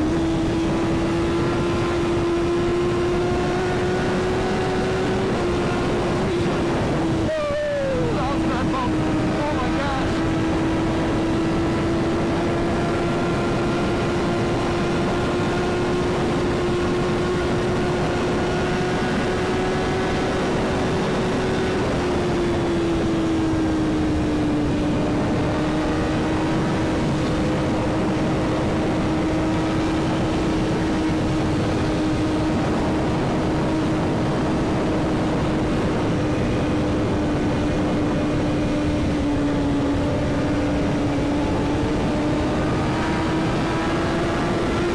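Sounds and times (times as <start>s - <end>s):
motorcycle engine cruising: 0.0s - 44.9s
wind rushing over microphone: 0.0s - 44.9s.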